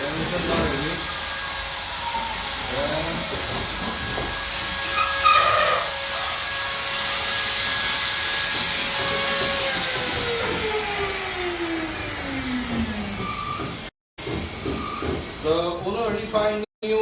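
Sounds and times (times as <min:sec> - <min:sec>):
electric motor whining: 0:00.0 - 0:13.9.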